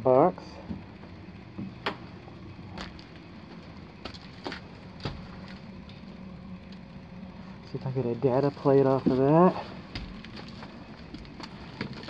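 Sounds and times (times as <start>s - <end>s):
hvac equipment humming: 0.0s - 12.0s.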